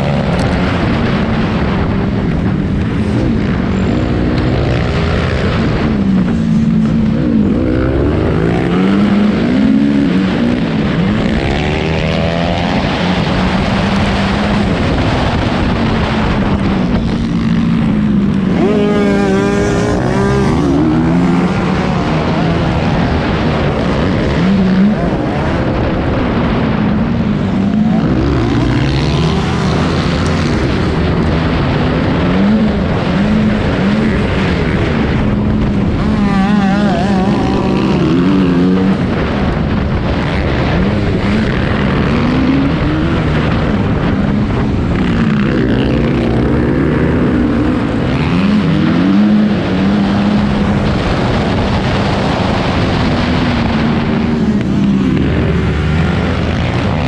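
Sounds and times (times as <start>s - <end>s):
dirt bike engine revving: 0.0s - 57.0s
wind noise: 0.0s - 57.0s.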